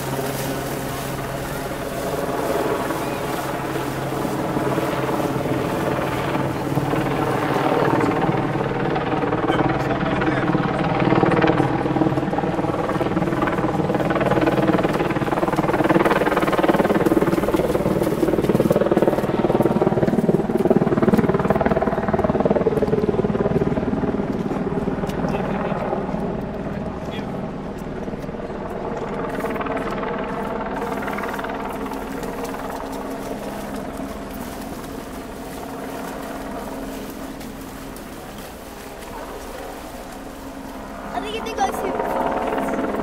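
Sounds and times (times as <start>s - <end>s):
loud engine drone: 0.0s - 43.0s.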